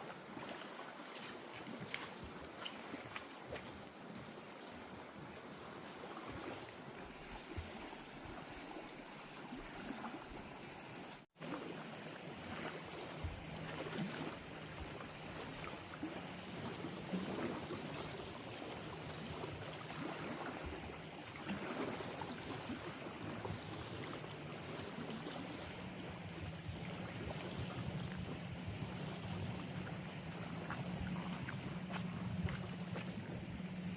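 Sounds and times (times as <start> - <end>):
paddle splashing in water: 0.0 - 33.9.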